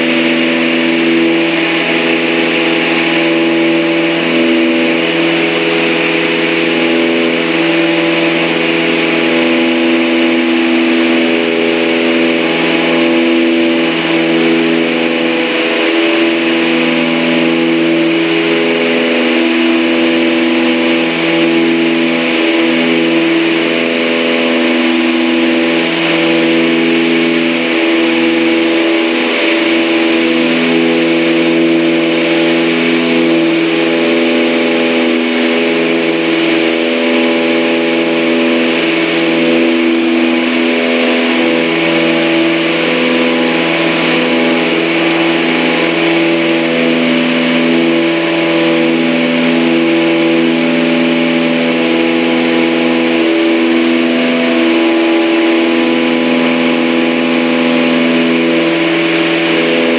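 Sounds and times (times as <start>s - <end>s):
aircraft engines and propellers: 0.0s - 59.9s.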